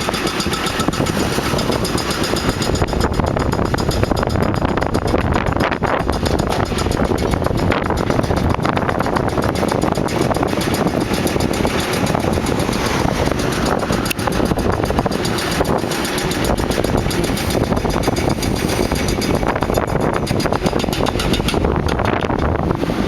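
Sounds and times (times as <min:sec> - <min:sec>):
heavy machinery engine running: 0:00.0 - 0:23.0
wind noise on microphone: 0:00.0 - 0:23.0.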